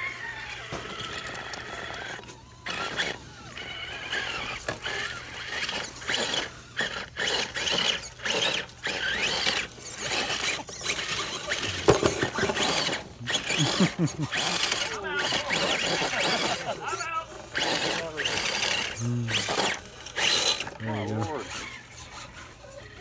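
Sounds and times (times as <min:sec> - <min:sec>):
electric motors whining: 0:00.0 - 0:23.0.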